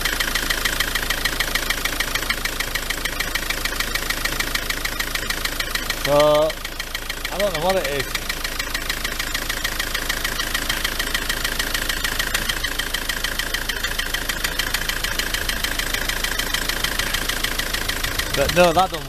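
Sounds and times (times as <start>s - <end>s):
diesel engine idling: 0.0s - 19.0s
rapid knocking: 0.0s - 19.0s.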